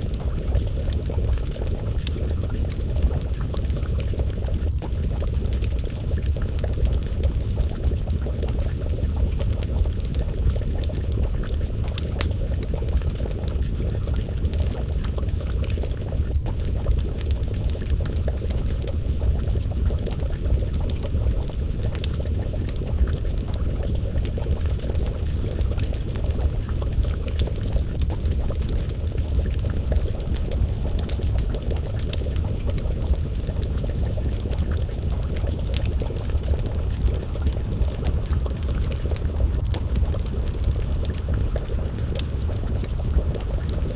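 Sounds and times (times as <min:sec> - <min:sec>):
stew bubbling in a pot: 0:00.0 - 0:43.9
wood fire crackling and popping: 0:00.0 - 0:43.9.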